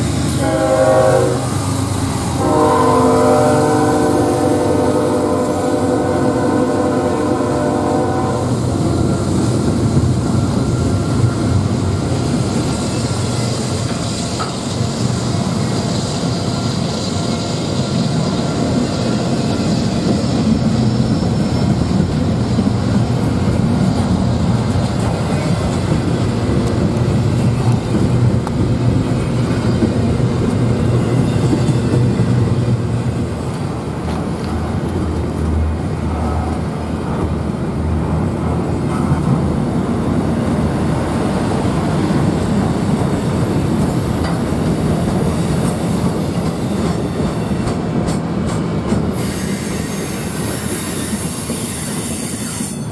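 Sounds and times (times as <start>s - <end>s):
freight train wheels rolling: 0.0s - 52.9s
clickety-clack over rail joints: 8.7s - 52.9s.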